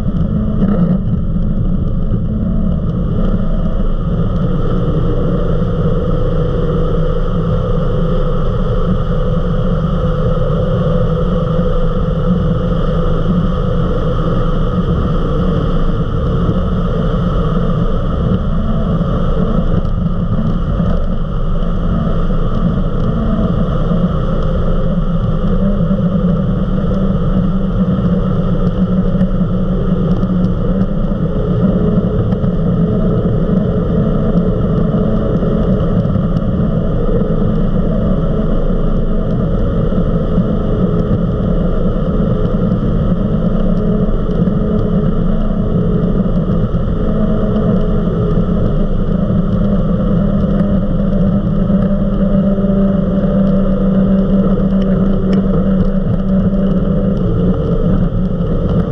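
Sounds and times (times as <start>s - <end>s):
powerboat engine drone: 0.0s - 58.9s.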